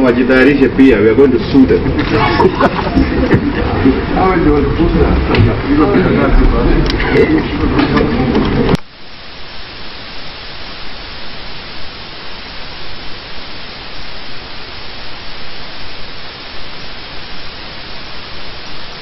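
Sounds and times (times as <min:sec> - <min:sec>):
static hiss: 0:00.0 - 0:19.0.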